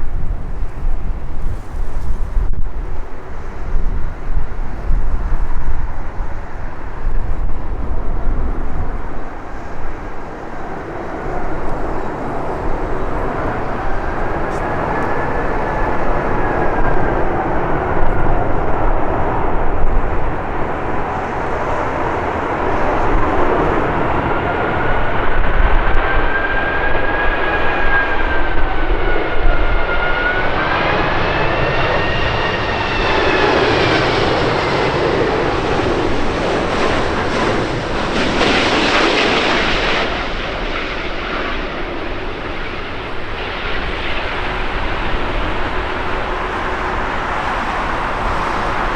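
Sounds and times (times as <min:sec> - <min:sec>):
jet airliner flying past: 0:00.0 - 0:48.9
wind rumble on microphone: 0:00.0 - 0:48.9.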